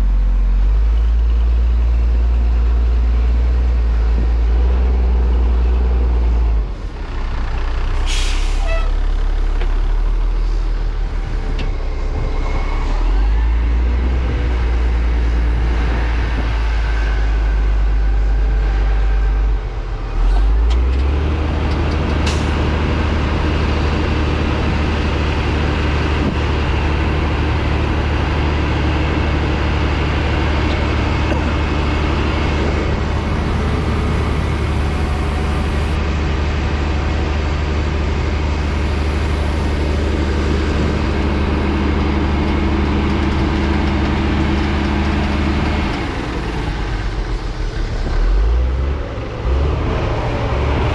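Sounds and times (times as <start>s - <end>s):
diesel engine rumbling: 0.0s - 50.9s.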